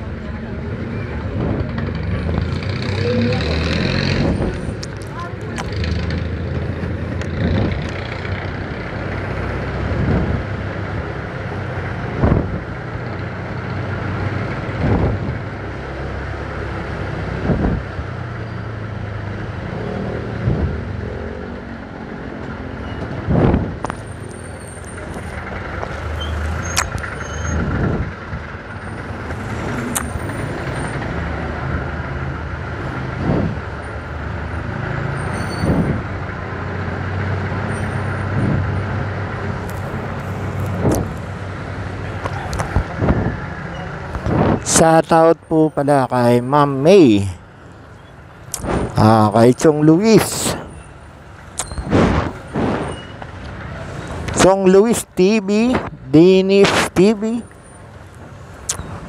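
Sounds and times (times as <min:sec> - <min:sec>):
motorcycle engine and road noise: 0:00.0 - 0:59.0.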